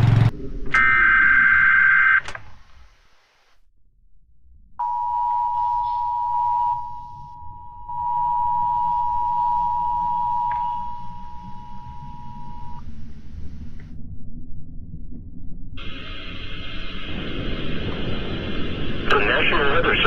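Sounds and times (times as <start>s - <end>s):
low rumble: 0.0s - 1.7s, 3.6s - 5.4s, 6.2s - 20.0s.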